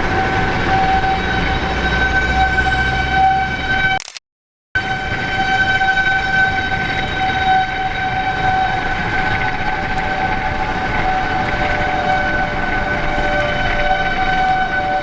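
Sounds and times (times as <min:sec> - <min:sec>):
lower steady siren tone: 0:00.0 - 0:04.0, 0:04.8 - 0:15.0
warning siren steady tone: 0:00.0 - 0:04.0, 0:04.8 - 0:15.0.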